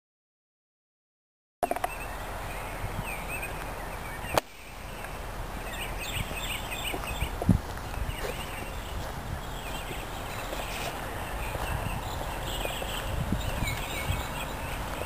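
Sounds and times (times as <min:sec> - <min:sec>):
outdoor background noise: 0:01.6 - 0:15.0
small birds chirping: 0:01.6 - 0:15.0.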